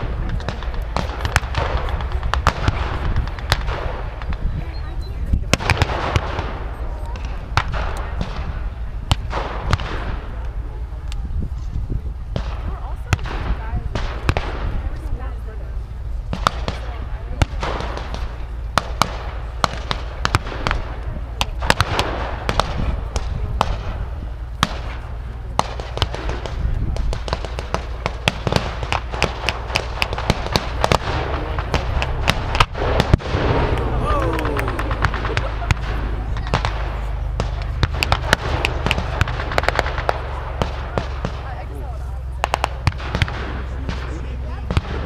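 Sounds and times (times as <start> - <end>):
distant gunfire cracks: 0.0 - 4.5, 5.5 - 10.4, 12.4 - 15.0, 16.3 - 41.7, 42.4 - 45.0
low steady rumble: 0.0 - 45.0.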